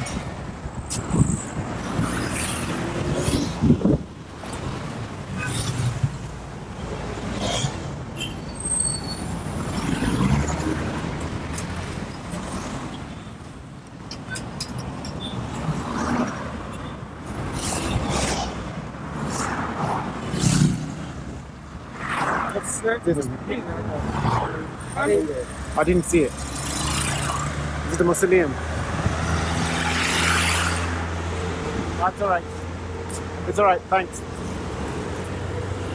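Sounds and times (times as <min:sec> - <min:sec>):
vehicles passing: 0:00.0 - 0:35.9.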